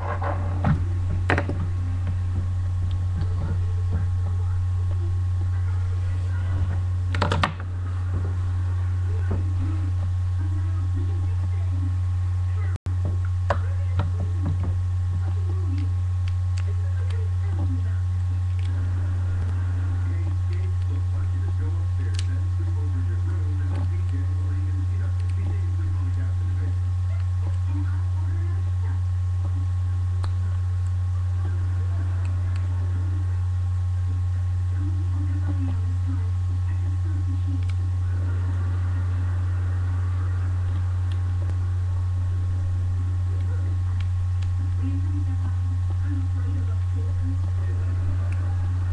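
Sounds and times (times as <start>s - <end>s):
faint murmur: 0.0s - 48.9s
low electrical hum: 0.0s - 48.9s.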